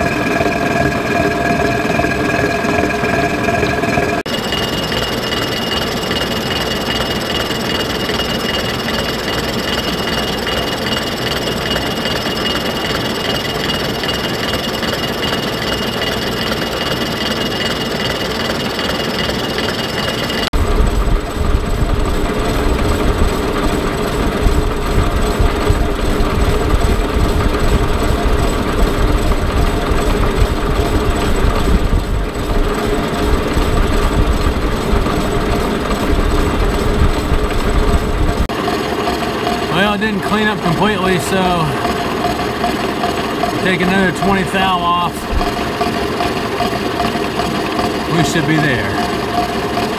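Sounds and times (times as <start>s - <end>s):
deep rumbling machine running: 0.0s - 49.9s
milling machine cutting with whine: 0.0s - 49.9s.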